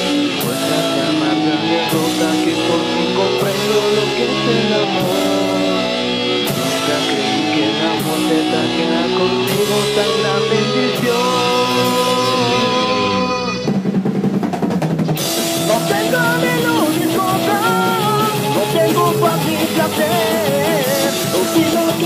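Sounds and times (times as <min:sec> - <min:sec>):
folk metal band playing: 0:00.0 - 0:22.0.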